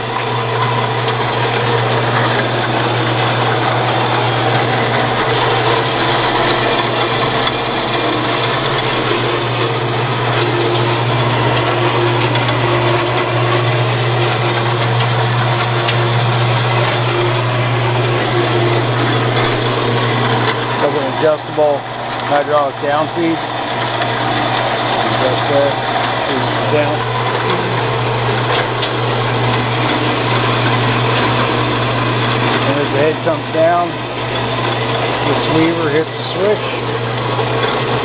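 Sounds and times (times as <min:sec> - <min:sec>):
band saw running: 0:00.0 - 0:38.0.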